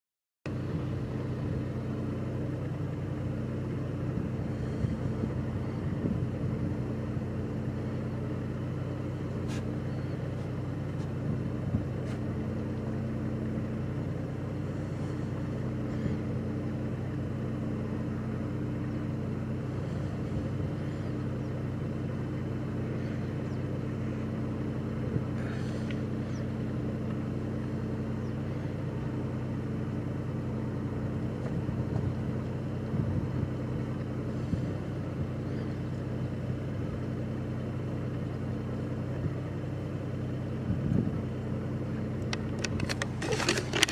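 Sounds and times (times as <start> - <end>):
car engine idling: 0.5 - 43.9.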